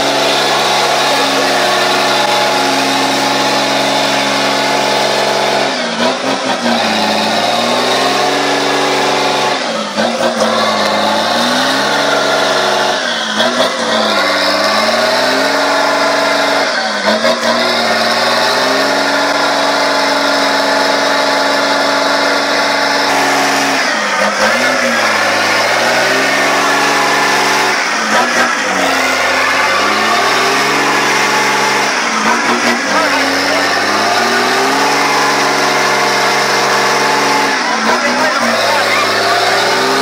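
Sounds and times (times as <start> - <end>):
truck diesel engine revving: 0.0 - 40.0.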